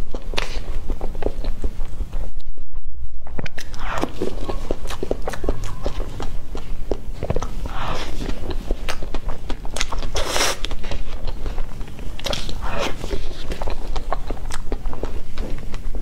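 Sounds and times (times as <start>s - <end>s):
wet chewing and smacking: 0.0s - 2.2s, 3.3s - 16.0s.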